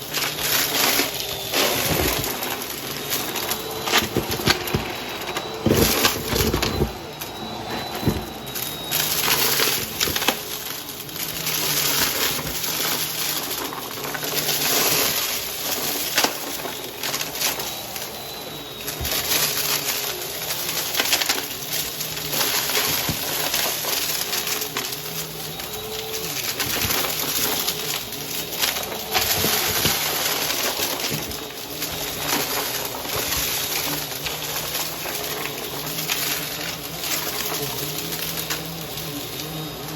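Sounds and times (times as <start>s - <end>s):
debris crackling in vacuum: 0.0s - 39.9s
vacuum cleaner running: 0.0s - 39.9s.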